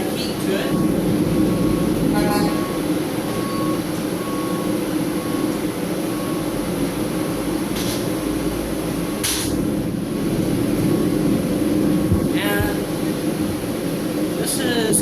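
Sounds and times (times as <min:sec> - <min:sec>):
forge roaring: 0:00.0 - 0:15.0.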